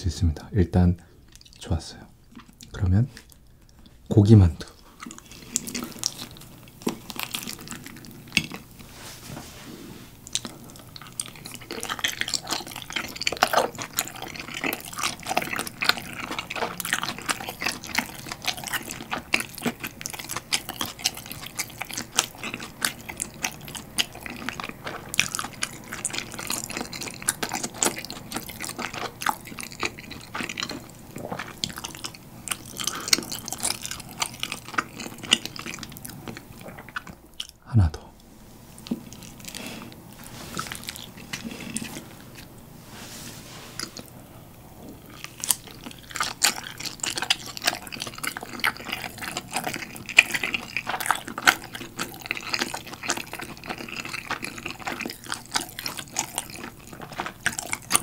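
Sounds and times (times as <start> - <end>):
wet chewing: 1.2 - 8.9, 10.1 - 37.6, 38.7 - 42.7, 43.7 - 58.0.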